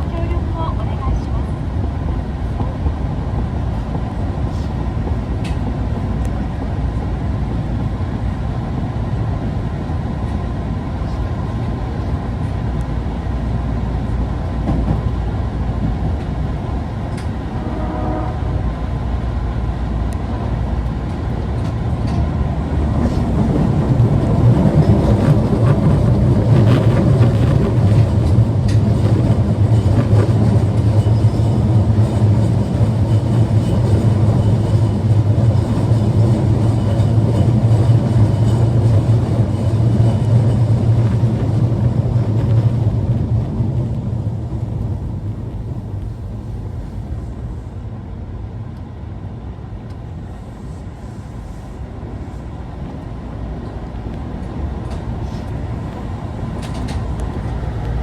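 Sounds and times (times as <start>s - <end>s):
subway car wheels and motors rumbling: 0.0s - 58.0s.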